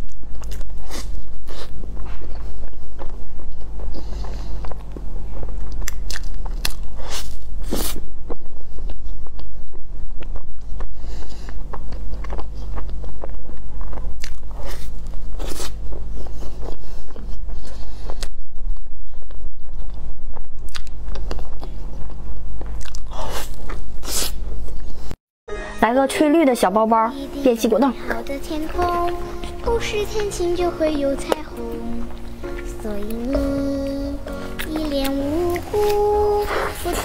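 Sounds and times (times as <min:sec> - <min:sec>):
chewing soft food: 0:00.0 - 0:25.1, 0:28.0 - 0:37.0
steady low hum: 0:00.0 - 0:25.2, 0:25.8 - 0:37.0.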